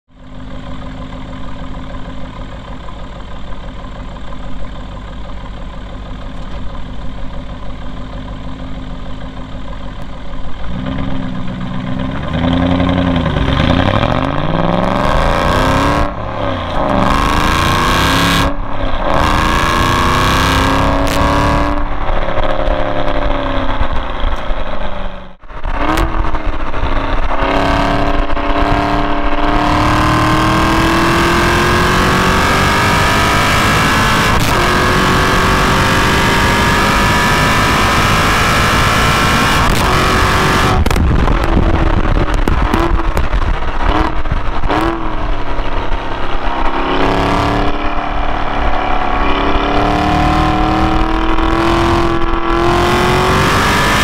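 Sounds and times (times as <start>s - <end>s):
car exhaust revving: 0.1s - 54.0s.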